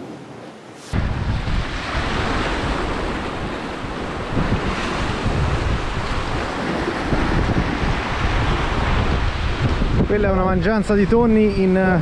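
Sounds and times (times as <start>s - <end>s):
sea waves washing on rocks: 0.8s - 12.0s
wind buffeting microphone: 0.9s - 12.0s.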